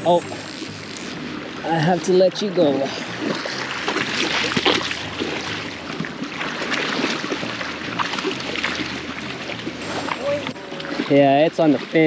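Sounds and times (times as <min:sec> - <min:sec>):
river current rushing: 0:00.0 - 0:12.0
small water splashes: 0:00.0 - 0:12.0.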